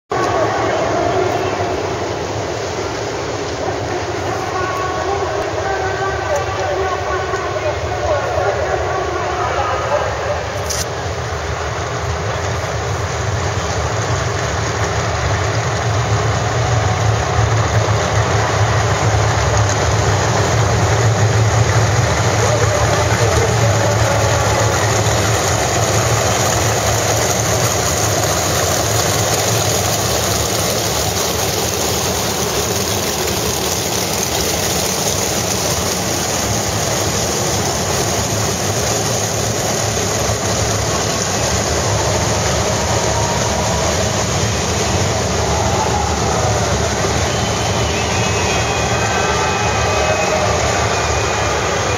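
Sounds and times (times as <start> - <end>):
race car engines rumbling: 0.0 - 51.9.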